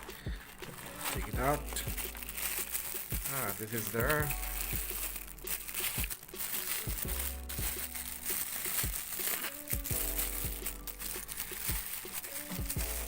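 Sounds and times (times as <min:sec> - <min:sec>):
music with kick-drum beat: 0:00.0 - 0:03.4, 0:04.0 - 0:13.0
plastic packaging crinkling: 0:00.0 - 0:13.0.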